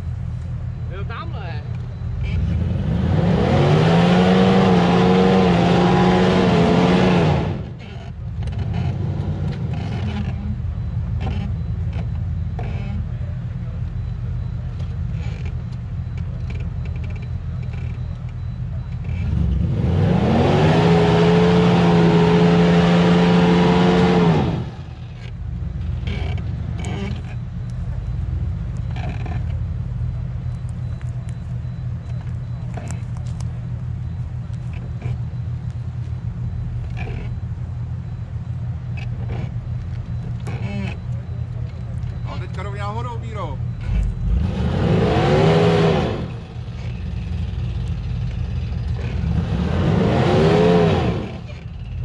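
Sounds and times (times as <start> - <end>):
engine revving: 2.2 - 13.1, 14.5 - 33.4, 38.0 - 52.0.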